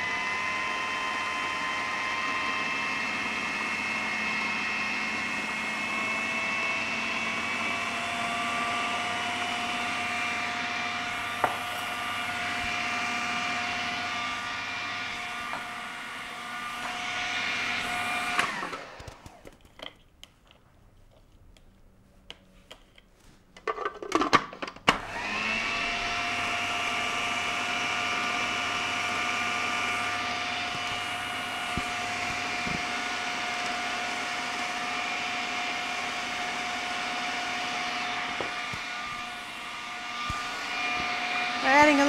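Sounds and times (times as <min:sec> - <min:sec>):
food processor motor whining: 0:00.0 - 0:19.6, 0:24.9 - 0:42.0.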